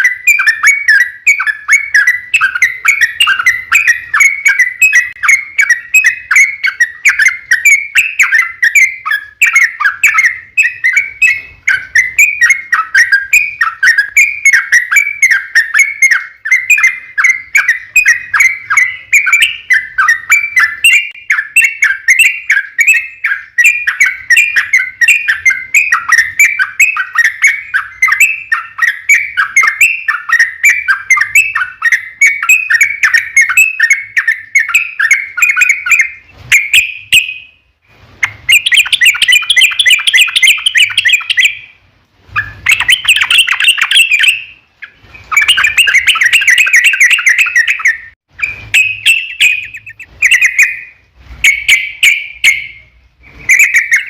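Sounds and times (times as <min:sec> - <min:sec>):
bird chattering and warbling: 0:00.0 - 0:37.5, 0:38.1 - 0:54.0.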